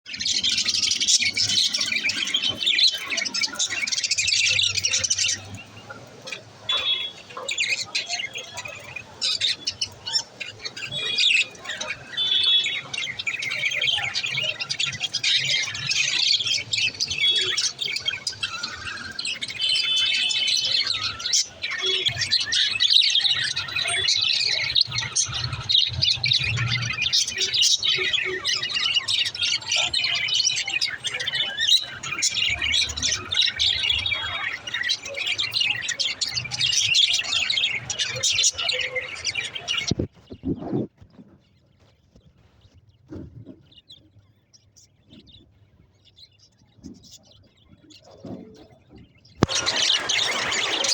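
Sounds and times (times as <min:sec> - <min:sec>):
budgerigars chirping and squawking: 0:00.1 - 0:50.9.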